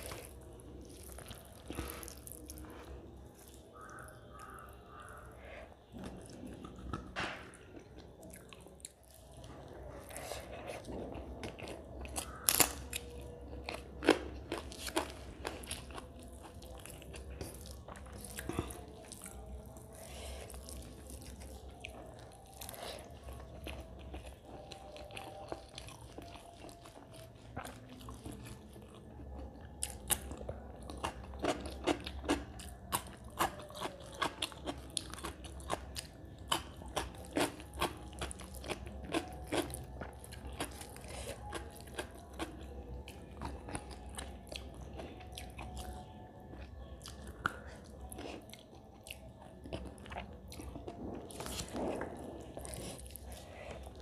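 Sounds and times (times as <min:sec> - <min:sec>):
person chewing with smacks: 0:00.0 - 0:54.0.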